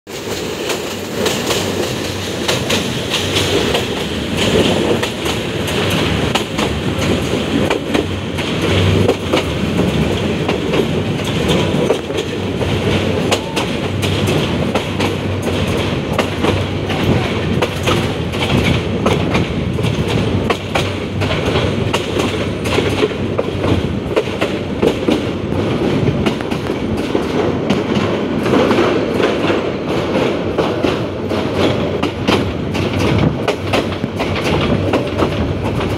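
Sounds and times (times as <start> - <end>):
train running rumble: 0.1 - 35.9
wheels clattering over rail joints: 0.1 - 35.9.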